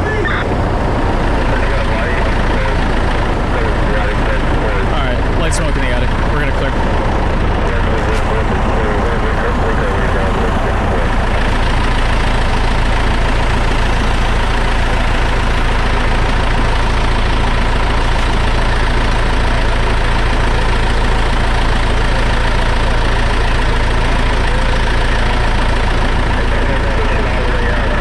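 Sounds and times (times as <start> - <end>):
diesel engine droning: 0.0 - 28.0.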